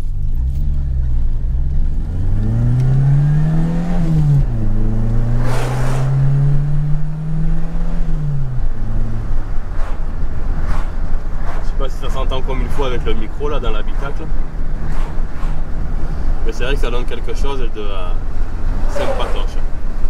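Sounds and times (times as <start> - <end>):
car engine revving: 0.0 - 20.0
road and wind noise: 0.0 - 20.0
passing truck rush: 0.7 - 20.0.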